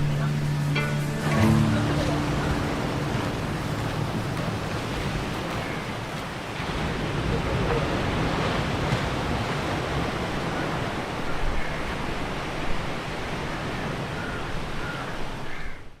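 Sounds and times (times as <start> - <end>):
sea waves and surf: 0.0 - 16.0.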